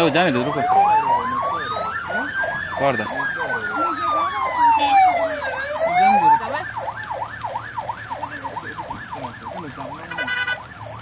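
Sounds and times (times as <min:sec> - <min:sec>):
fast yelping siren: 0:00.0 - 0:11.0
slow wailing siren: 0:00.0 - 0:11.0.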